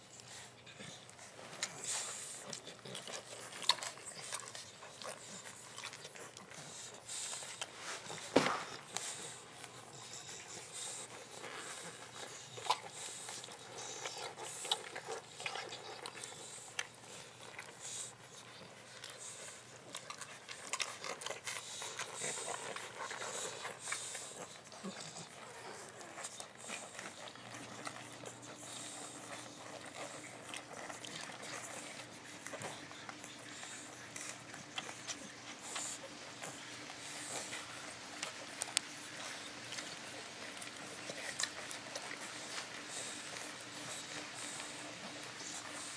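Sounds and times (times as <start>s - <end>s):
puppies suckling: 0.0s - 45.9s.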